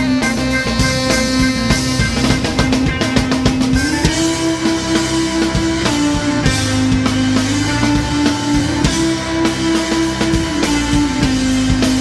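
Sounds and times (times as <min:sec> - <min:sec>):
instrumental band music: 0:00.0 - 0:12.0.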